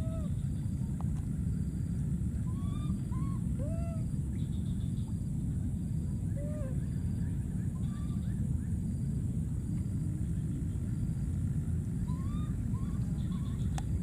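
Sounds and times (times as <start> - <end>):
faint chirping calls: 0.0 - 14.0
wind buffeting microphone: 0.0 - 14.0.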